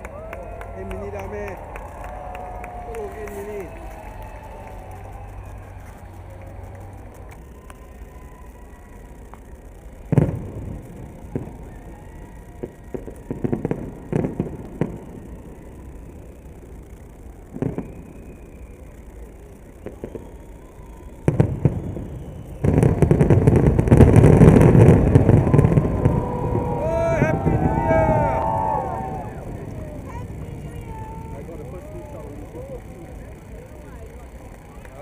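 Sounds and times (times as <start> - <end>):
fireworks bangs: 0.5 - 35.0.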